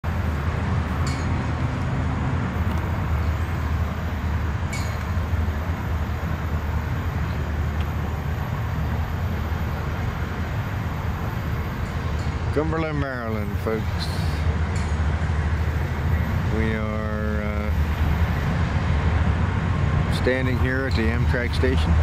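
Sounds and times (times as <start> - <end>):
diesel locomotives rumbling: 0.0 - 22.0.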